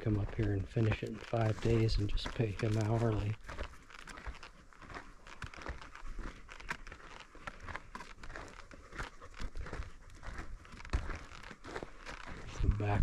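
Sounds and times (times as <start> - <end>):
footsteps crunching on dirt: 0.0 - 13.0.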